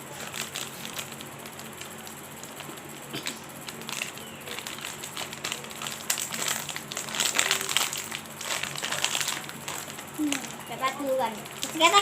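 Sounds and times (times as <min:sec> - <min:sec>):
plastic packaging crinkling: 0:00.1 - 0:12.0.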